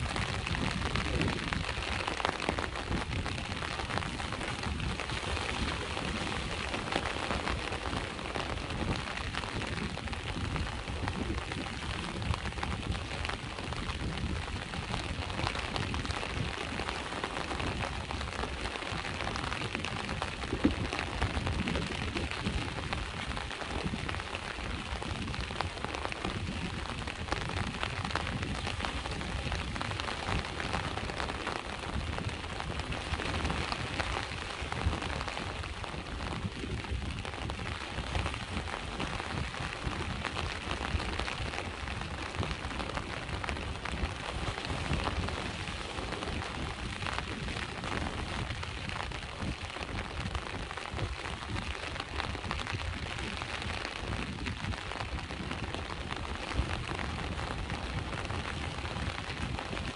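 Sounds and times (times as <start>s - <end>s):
sea waves washing: 0.0s - 54.1s
steady rain falling: 0.0s - 59.9s.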